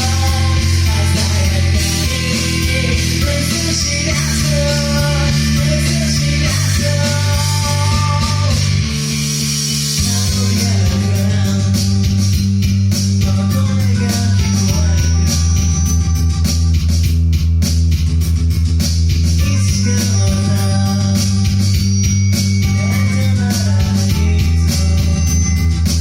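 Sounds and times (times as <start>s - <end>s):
rock music with guitars and bass: 0.0s - 26.0s.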